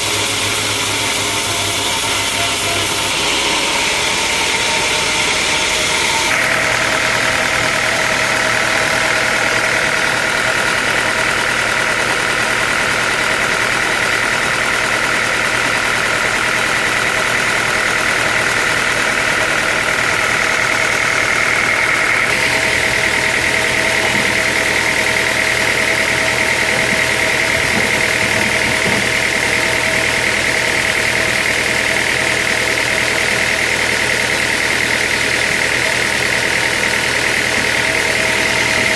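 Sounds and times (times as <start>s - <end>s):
sawmill machinery drone: 0.0s - 38.9s
high whine: 0.1s - 33.4s, 34.9s - 38.9s.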